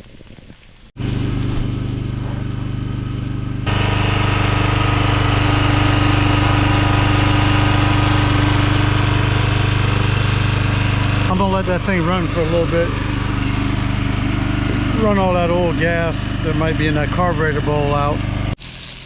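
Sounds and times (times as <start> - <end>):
small gasoline engine running: 1.0 - 18.6.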